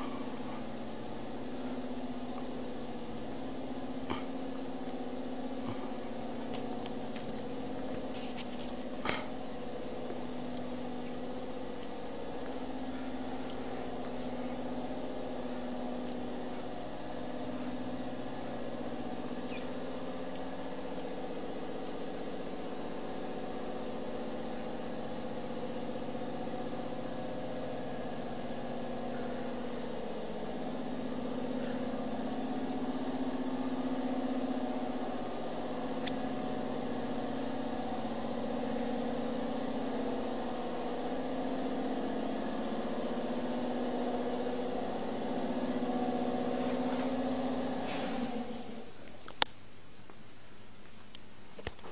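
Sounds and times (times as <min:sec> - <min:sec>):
conveyor machine hum: 0:00.0 - 0:51.9.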